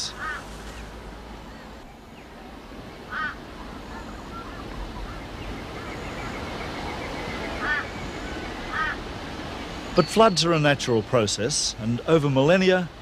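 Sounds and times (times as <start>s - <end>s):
harsh bird calls: 0.0s - 1.0s, 2.9s - 12.8s
steady background hiss: 0.0s - 13.0s.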